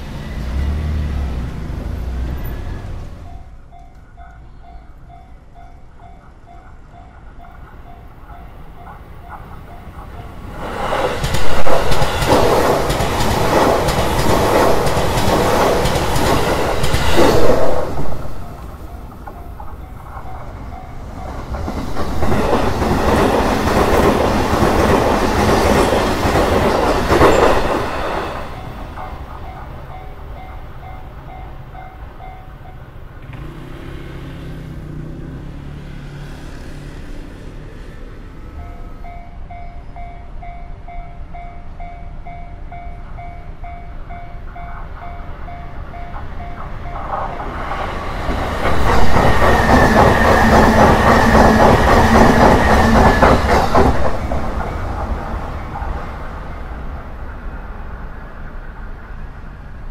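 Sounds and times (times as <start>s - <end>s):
train wheels rushing on rails: 0.0s - 3.7s, 6.2s - 40.9s, 43.0s - 59.9s.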